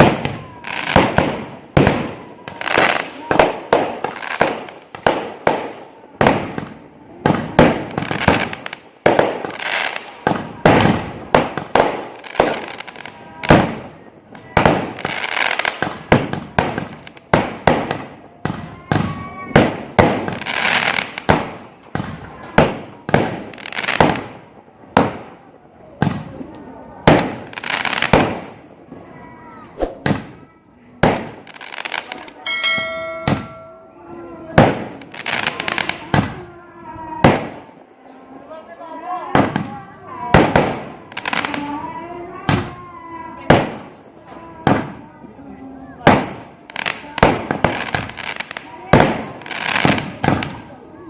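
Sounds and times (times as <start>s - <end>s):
fireworks bangs: 0.0s - 38.0s, 39.2s - 51.0s
fireworks crackling: 0.0s - 51.0s.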